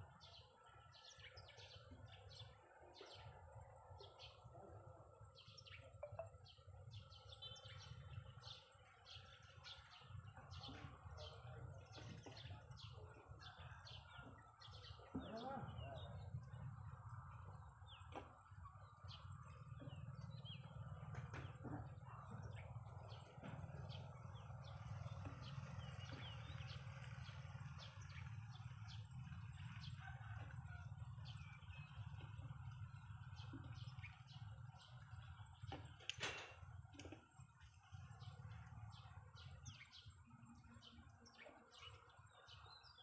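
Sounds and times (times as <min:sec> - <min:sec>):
birds chirping: 0:00.1 - 0:43.0.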